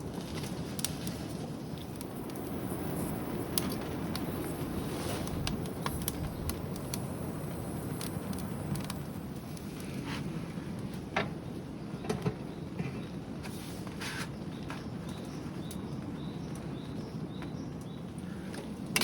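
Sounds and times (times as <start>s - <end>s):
wood fire crackling: 0.0s - 11.6s, 13.4s - 19.0s.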